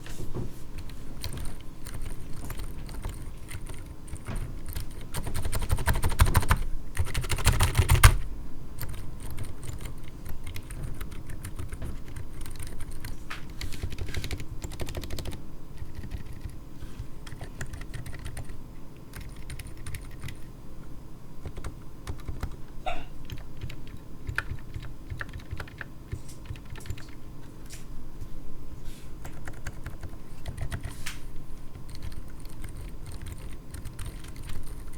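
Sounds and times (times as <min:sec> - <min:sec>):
mechanical keyboard keystrokes: 0:00.8 - 0:16.6, 0:17.2 - 0:20.5, 0:21.4 - 0:22.6, 0:23.2 - 0:27.2, 0:29.2 - 0:30.9, 0:31.7 - 0:34.9.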